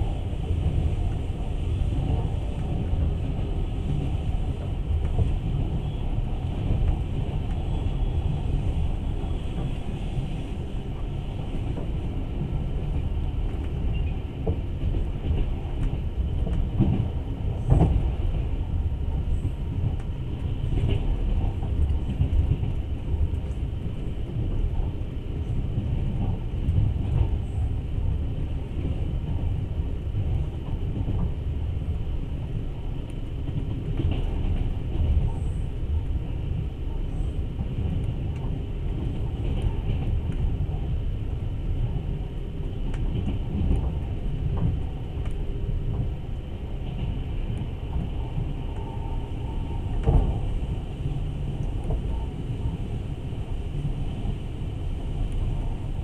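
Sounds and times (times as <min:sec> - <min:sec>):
wheels rumbling on rails: 0:00.0 - 0:56.0.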